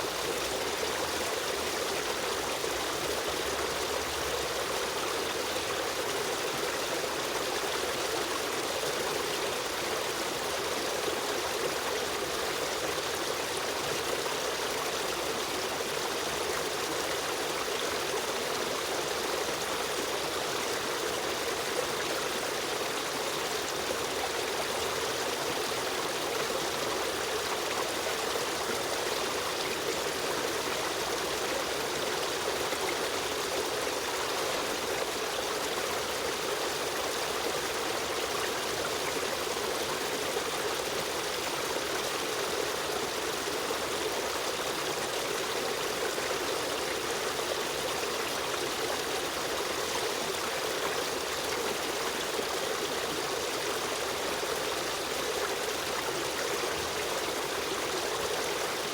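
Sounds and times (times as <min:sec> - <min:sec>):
stream water running over rocks: 0:00.0 - 0:58.9.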